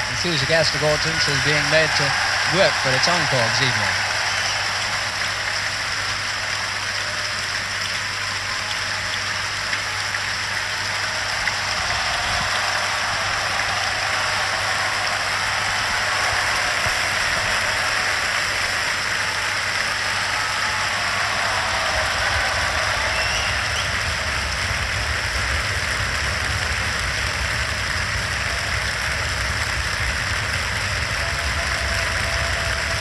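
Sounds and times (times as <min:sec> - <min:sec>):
audience applauding: 0:00.0 - 0:33.0.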